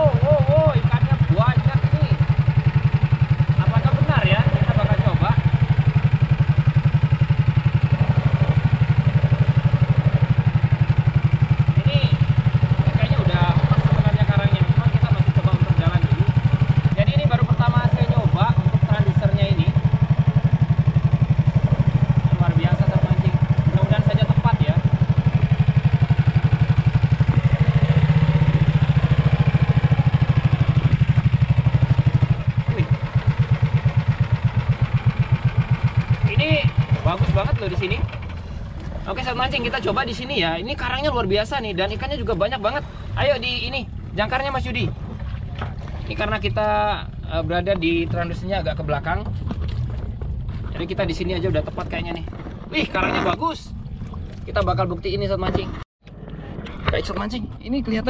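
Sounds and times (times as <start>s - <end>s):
boat engine thumping: 0.0s - 58.0s.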